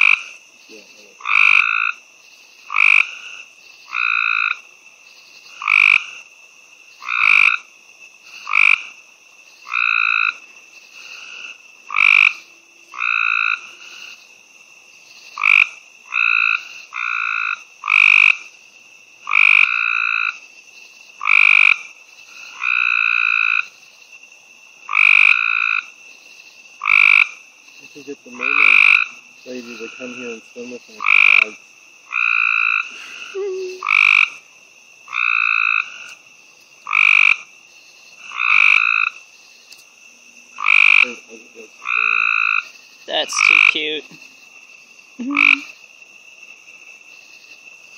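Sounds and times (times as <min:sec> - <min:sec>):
treefrogs trilling: 0:00.0 - 0:47.9.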